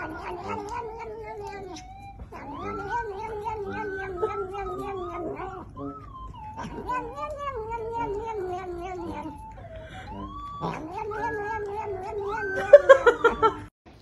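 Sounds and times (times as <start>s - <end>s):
cat yowling: 0.0s - 13.7s.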